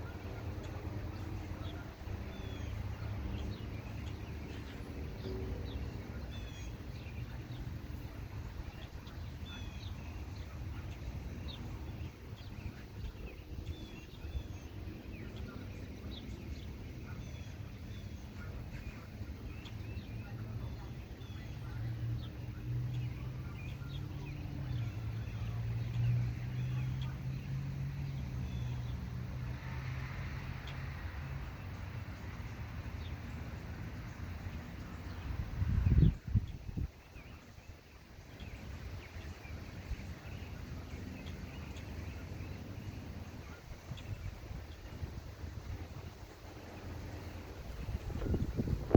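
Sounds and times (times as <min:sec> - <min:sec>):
birds chirping: 0:00.0 - 0:29.6, 0:30.2 - 0:48.9.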